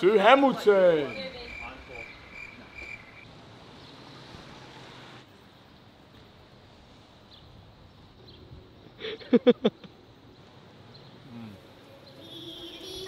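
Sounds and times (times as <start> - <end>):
street ambience hiss: 0.0 - 13.0.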